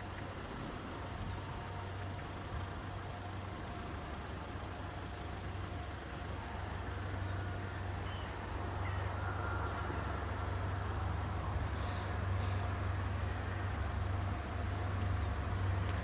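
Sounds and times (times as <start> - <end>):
diesel locomotive drone: 0.0 - 16.0.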